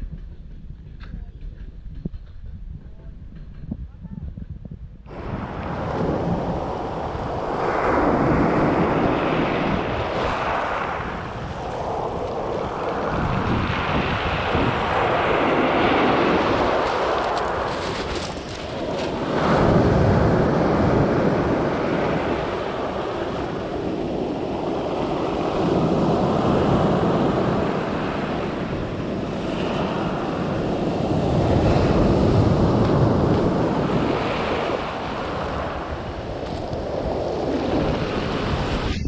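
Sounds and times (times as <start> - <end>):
waves breaking on pebble beach: 5.1 - 38.8.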